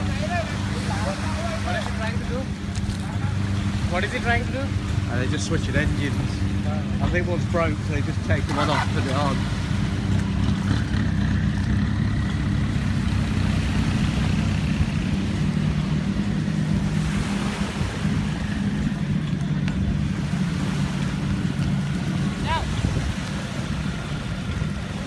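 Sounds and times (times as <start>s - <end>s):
boat engine running: 0.0s - 25.0s
water noise: 0.0s - 25.0s
wind: 0.0s - 25.0s.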